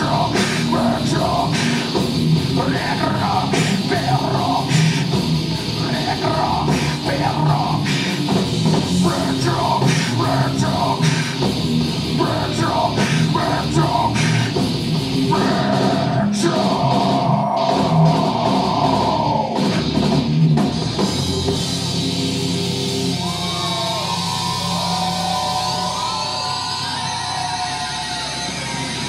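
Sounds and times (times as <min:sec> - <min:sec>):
heavy metal band playing live: 0:00.0 - 0:29.0.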